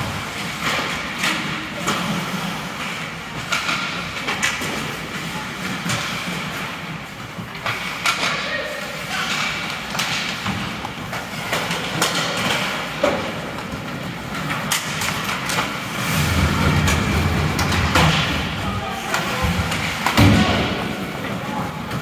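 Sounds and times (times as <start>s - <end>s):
hockey sticks clacking on puck: 0.0s - 16.1s, 17.6s - 22.0s
skates scraping ice: 0.0s - 22.0s.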